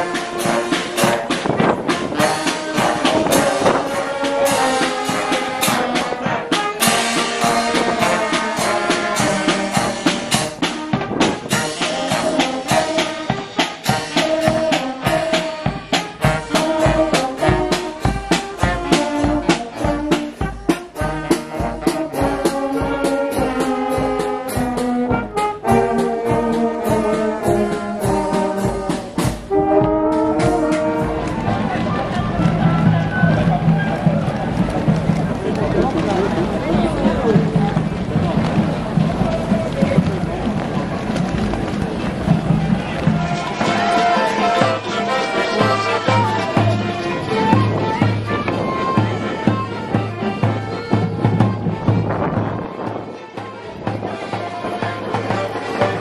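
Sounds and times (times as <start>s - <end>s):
brass band playing a march: 0.0s - 56.0s.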